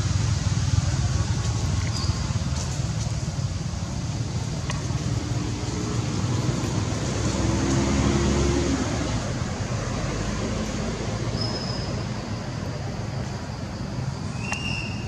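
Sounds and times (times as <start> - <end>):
outdoor rumble and hiss: 0.0 - 15.0.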